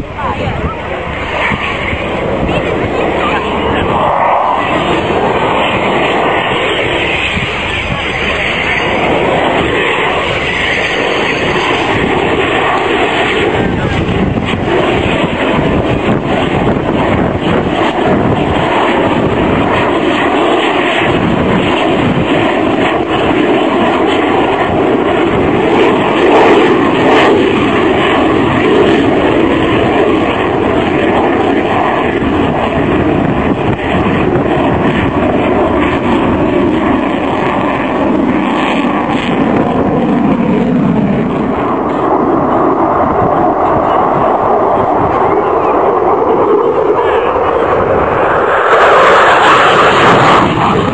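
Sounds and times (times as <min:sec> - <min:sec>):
fighter jet engine roar: 0:00.0 - 0:50.9.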